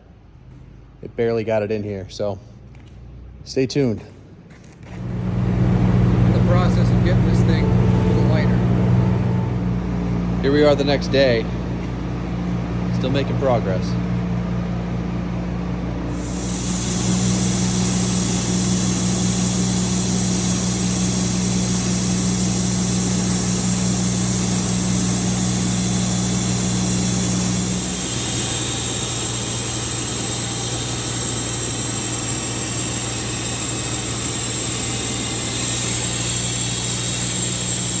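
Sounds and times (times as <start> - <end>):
sawmill engine running: 5.0 - 38.0.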